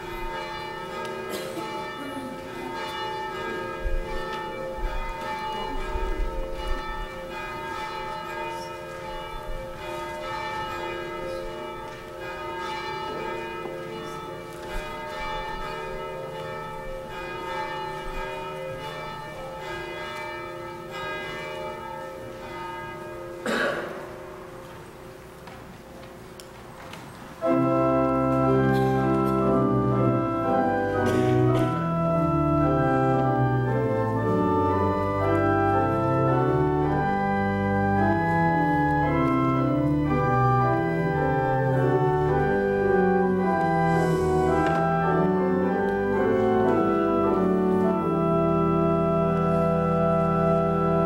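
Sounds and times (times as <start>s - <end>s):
church bells ringing: 0.0s - 25.4s, 27.4s - 51.0s.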